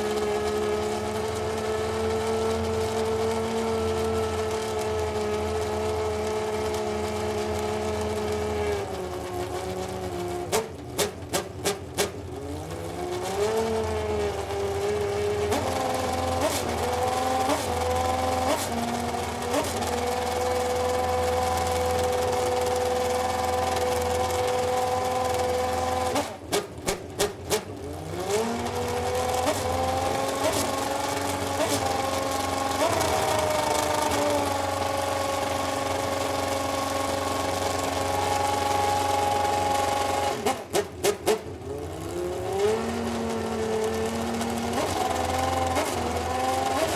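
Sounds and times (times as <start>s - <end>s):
racing engine at high revs: 0.0s - 46.9s.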